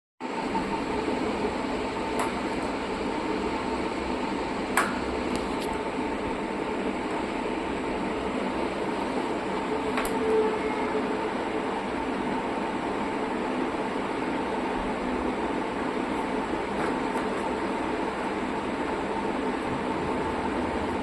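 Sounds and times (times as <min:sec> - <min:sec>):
steady mechanical hum: 0:00.2 - 0:21.0.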